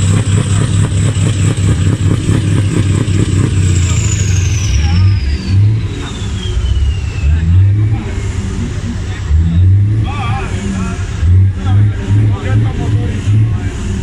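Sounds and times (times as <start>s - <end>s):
truck diesel engine clattering: 0.0s - 14.0s
high whine falling in pitch: 2.0s - 14.0s.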